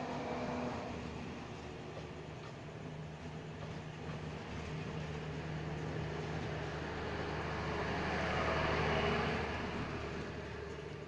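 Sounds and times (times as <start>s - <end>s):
train coaches rumbling past: 0.0s - 11.0s.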